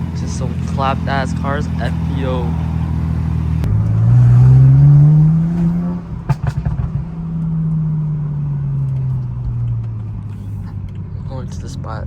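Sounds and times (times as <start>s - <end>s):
car engine accelerating: 0.0s - 12.0s
exhaust crackling: 0.0s - 12.0s.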